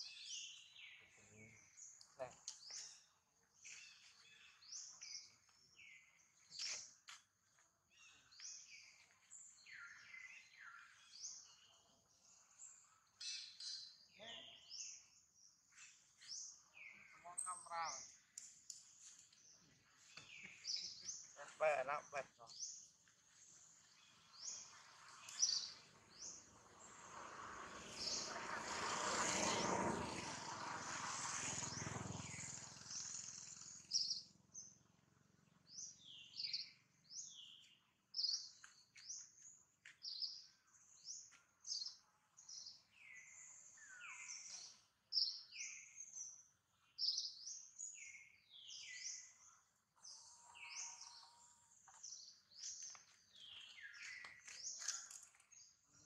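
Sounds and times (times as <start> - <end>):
birds chirping: 0.0 - 27.1, 27.8 - 56.0.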